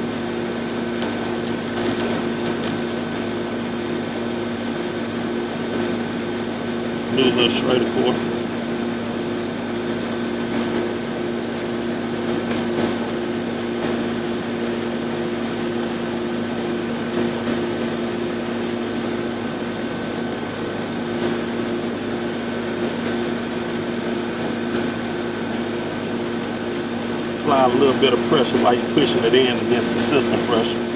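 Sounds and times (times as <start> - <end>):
fan whirring: 0.0 - 30.9
mechanical hum: 0.0 - 30.9.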